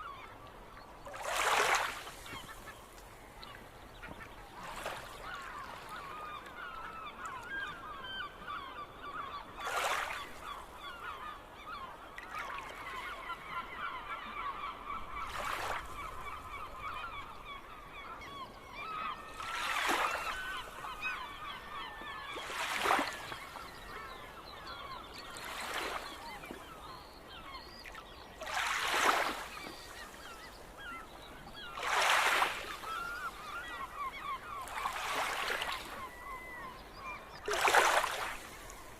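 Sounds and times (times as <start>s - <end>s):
gulls calling: 1.1s - 38.9s.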